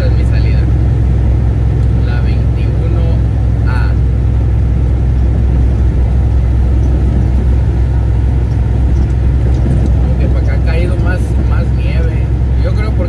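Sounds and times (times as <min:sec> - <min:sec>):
truck engine and tyres droning: 0:00.0 - 0:13.0.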